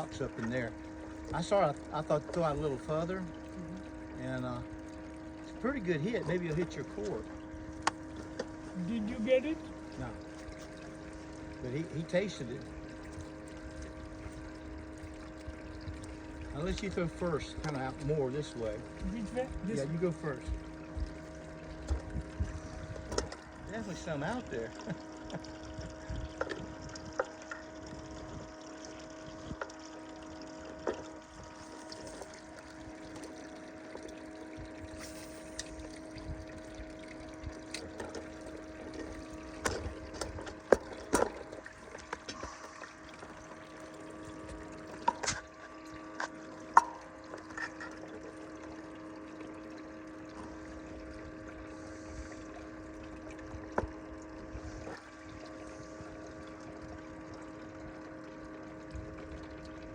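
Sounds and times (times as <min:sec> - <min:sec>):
small pump humming: 0:00.0 - 0:59.9
water trickling: 0:00.0 - 0:59.9.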